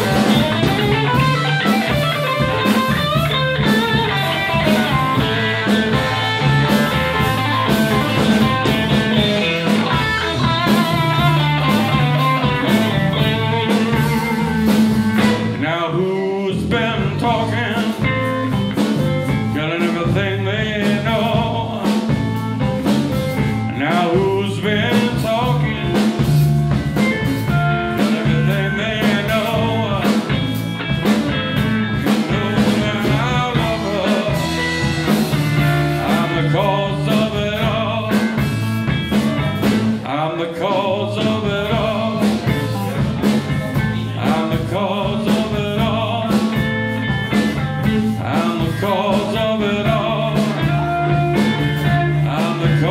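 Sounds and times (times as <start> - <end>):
bass guitar: 0.0 - 52.9
drums: 0.0 - 52.9
electric guitar lead: 0.0 - 52.9.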